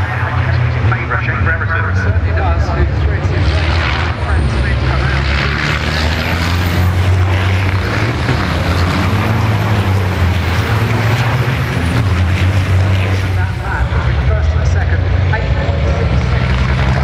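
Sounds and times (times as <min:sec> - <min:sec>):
racing truck engines droning: 0:00.0 - 0:17.0.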